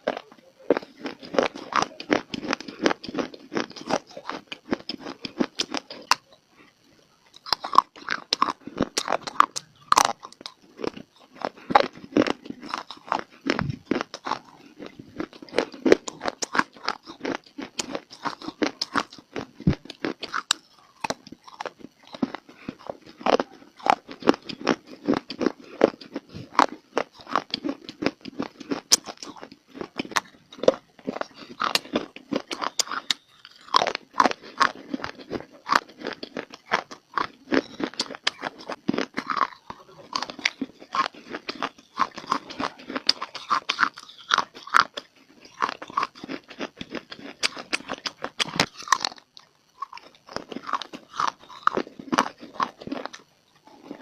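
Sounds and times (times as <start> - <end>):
crunchy clay chewing: 0.0 - 54.0.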